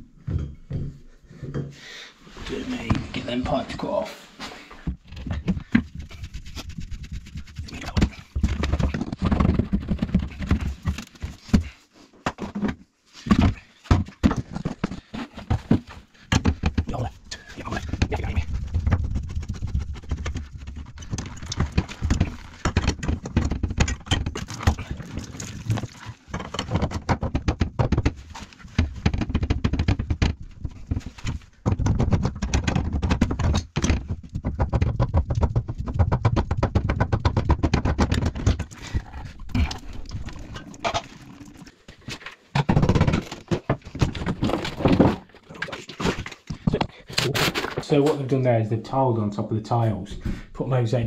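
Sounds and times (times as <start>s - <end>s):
rubbing and handling noise: 2.2s - 48.4s.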